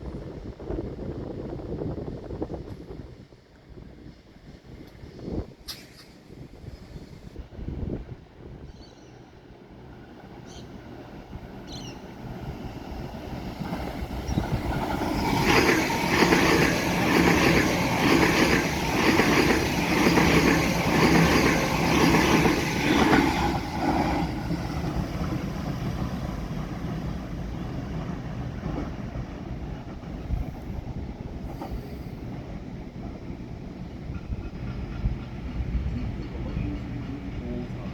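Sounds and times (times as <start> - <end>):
train passing rumble: 0.0 - 37.9.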